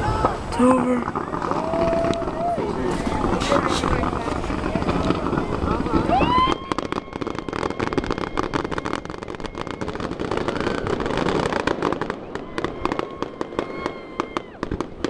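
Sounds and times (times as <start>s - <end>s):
firework whistle rising: 0.0s - 15.0s
fireworks crackling: 0.0s - 15.0s.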